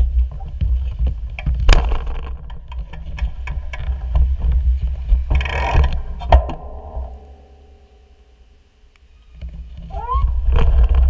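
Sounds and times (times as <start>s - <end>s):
bicycle rumbling over pavement: 0.0s - 7.4s, 9.4s - 11.0s.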